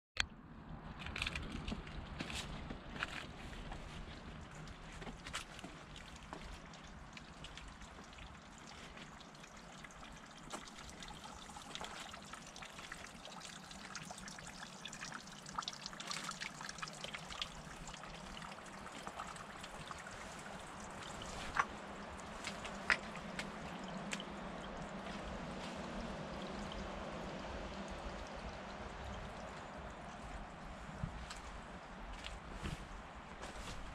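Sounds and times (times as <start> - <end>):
water trickling over stones: 0.7 - 33.9.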